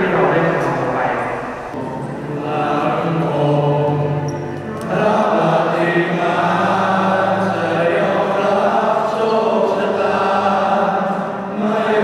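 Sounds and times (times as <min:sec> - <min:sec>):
voice on a microphone: 0:00.0 - 0:12.0.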